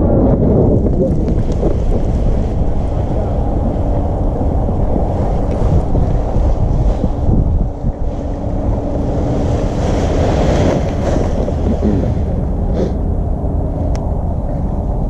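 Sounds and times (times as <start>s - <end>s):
paramotor engine drone: 0.0s - 15.0s
wind buffeting microphone: 0.0s - 15.0s.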